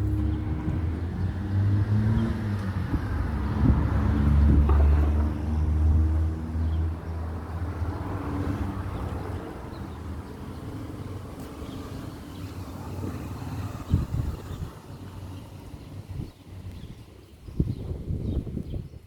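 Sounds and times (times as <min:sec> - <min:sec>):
wind buffeting microphone: 0:00.0 - 0:10.4, 0:12.6 - 0:19.0
vehicle engine hum: 0:00.0 - 0:18.6.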